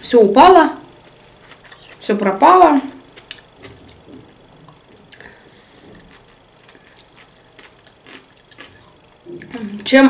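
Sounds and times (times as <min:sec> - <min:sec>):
faint chewing: 0:01.0 - 0:02.3, 0:02.9 - 0:09.9.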